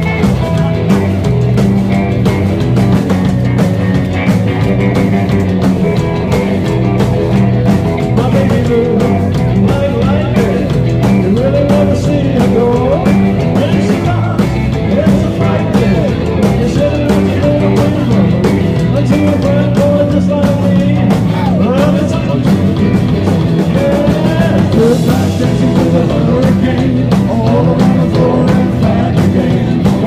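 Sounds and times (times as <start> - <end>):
drum kit steady beat: 0.0 - 30.0
electric guitars: 0.0 - 30.0.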